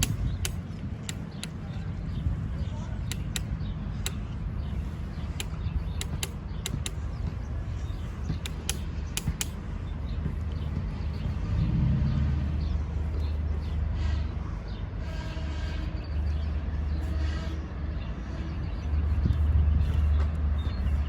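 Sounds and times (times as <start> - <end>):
diesel train rumbling: 0.0 - 21.0.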